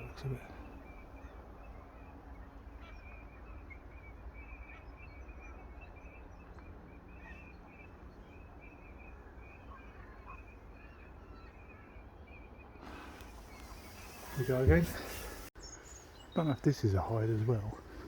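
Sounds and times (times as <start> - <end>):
distant birds chirping: 0.0 - 18.0.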